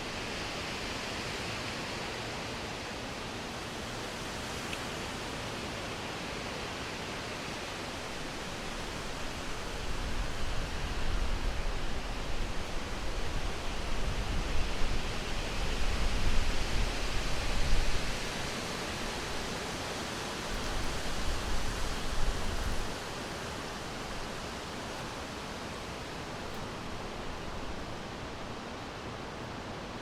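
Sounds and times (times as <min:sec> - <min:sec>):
wind rushing through forest: 0:00.0 - 0:30.0.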